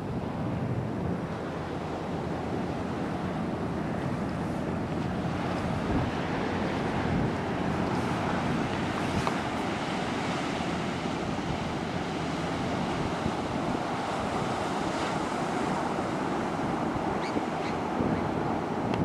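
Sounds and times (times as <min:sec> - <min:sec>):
ocean surf on beach: 0:00.0 - 0:19.0
wind buffeting microphone: 0:00.0 - 0:19.0.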